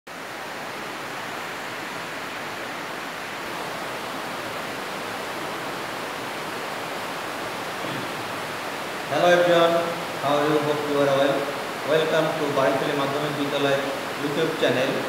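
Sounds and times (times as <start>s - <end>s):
steady hiss: 0.2s - 15.0s.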